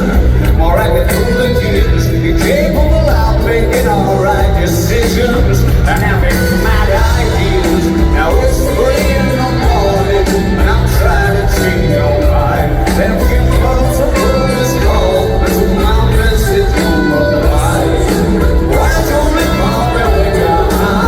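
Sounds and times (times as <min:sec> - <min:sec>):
rock song with man singing: 0:00.0 - 0:21.0.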